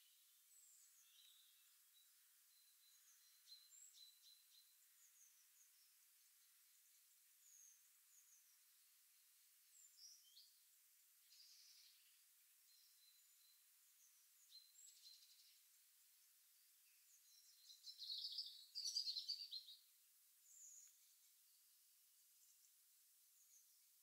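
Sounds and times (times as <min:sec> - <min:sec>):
rapid twittering birdsong: 0:00.0 - 0:24.0
small birds chirping: 0:00.0 - 0:24.0.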